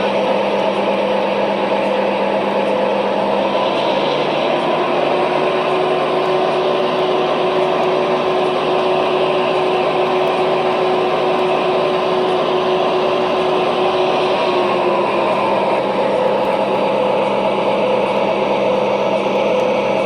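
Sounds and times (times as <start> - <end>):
model locomotive engine sound: 0.0 - 20.0.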